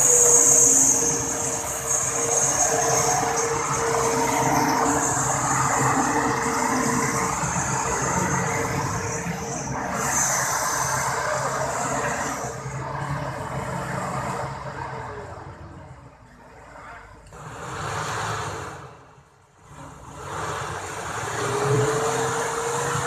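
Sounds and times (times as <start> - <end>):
wheels churning in mud: 0.0 - 23.0.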